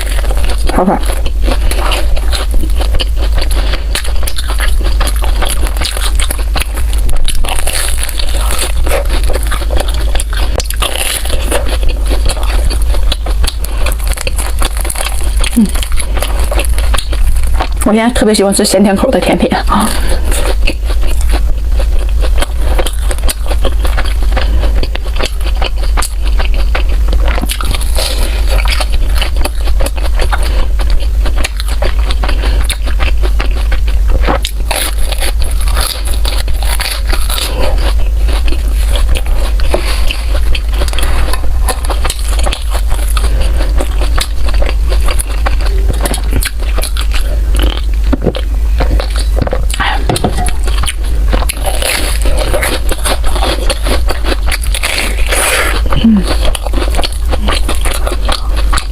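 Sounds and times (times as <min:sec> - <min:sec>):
mouth chewing food: 0:00.0 - 0:58.9
steady low hum: 0:00.0 - 0:58.9.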